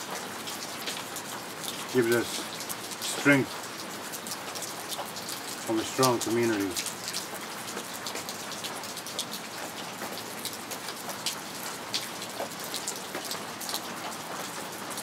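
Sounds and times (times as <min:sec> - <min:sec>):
raindrops ticking close by: 0:00.0 - 0:15.0
steady rain: 0:00.0 - 0:15.0.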